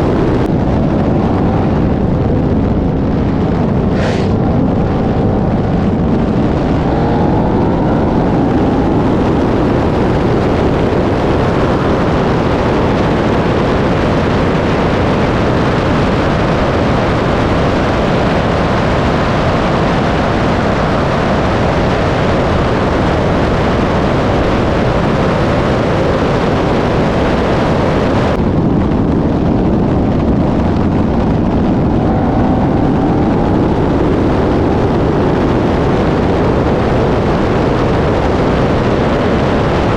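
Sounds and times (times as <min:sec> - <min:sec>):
car engines at full throttle: 0:00.0 - 0:39.9.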